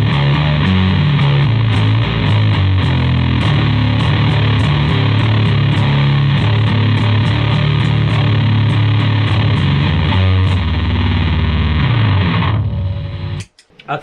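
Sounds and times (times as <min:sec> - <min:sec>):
fuzzed bass guitar notes: 0:00.0 - 0:13.5.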